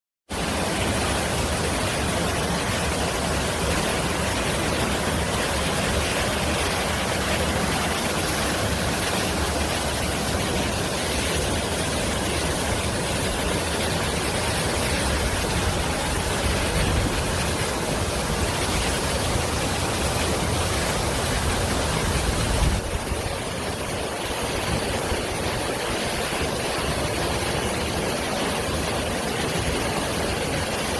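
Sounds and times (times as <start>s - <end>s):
rushing water: 0.3s - 30.9s.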